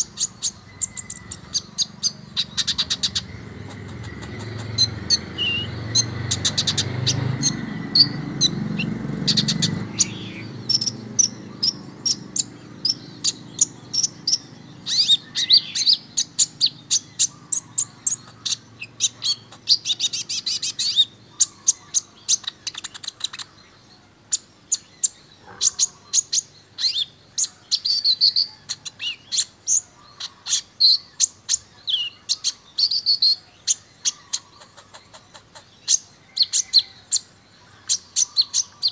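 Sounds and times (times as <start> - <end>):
sunbird singing: 0.0 - 38.9.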